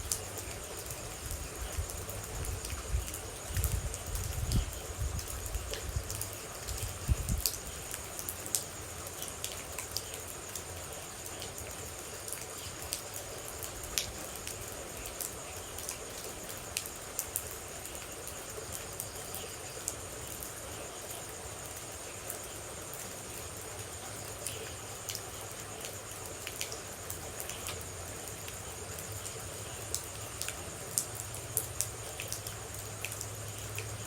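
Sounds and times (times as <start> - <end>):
steady rain: 0.0 - 34.0
water dripping: 0.0 - 34.0.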